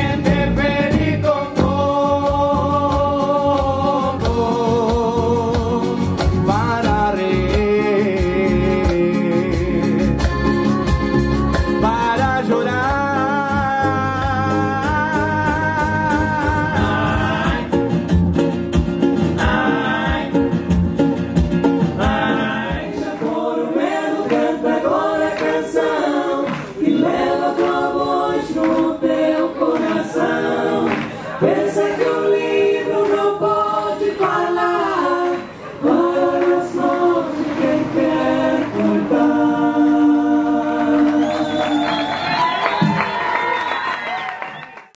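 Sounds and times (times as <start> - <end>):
group singing in chorus: 0.0 - 10.1, 12.0 - 18.1, 19.1 - 21.1, 21.8 - 42.3
ukulele: 0.0 - 40.0
accordion: 0.0 - 42.4
acoustic guitar: 0.0 - 43.2.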